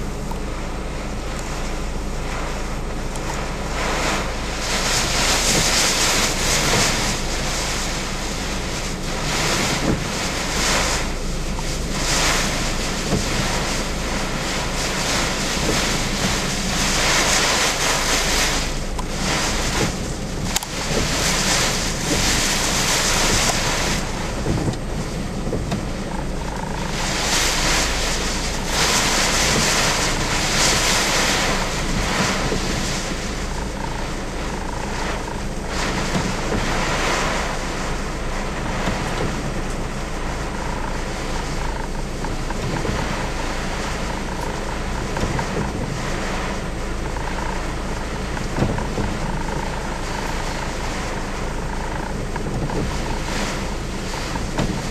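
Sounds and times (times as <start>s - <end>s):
constant low rumble: 0.0s - 54.9s
ocean surf: 0.0s - 54.9s
strong wind buffeting microphone: 0.0s - 54.9s.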